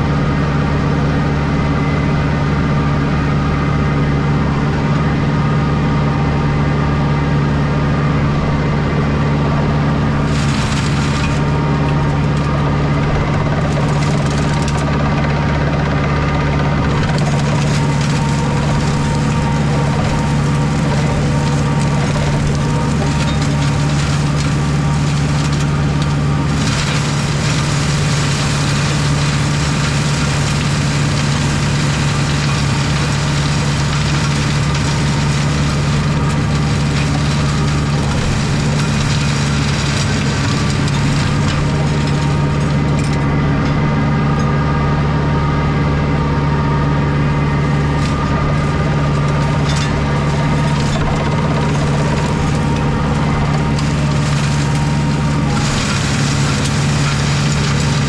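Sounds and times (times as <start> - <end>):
mulcher shredding brambles: 0.0 - 58.0
tractor engine running: 0.0 - 58.0.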